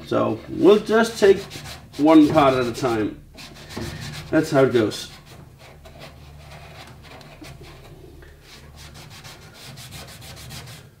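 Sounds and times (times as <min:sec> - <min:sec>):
hand scrubbing metal frame: 0:00.0 - 0:11.0.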